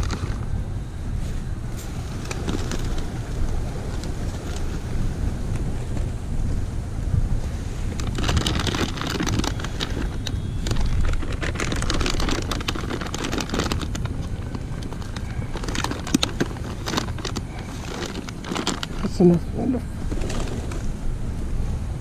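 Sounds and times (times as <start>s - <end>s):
plastic bag rustling: 0.0s - 5.9s, 7.4s - 21.2s
steady low rumble: 0.0s - 22.0s.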